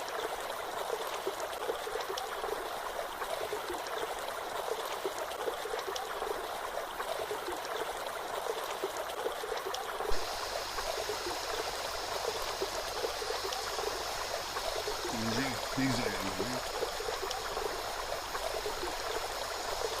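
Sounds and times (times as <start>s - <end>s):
stream water splashing: 0.0s - 20.0s.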